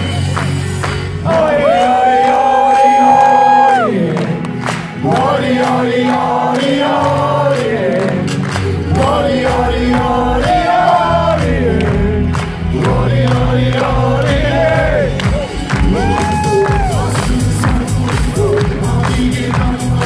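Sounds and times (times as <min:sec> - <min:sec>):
band backing track: 0:00.0 - 0:20.0
crowd noise: 0:00.0 - 0:20.0
man singing pop song: 0:00.0 - 0:20.0.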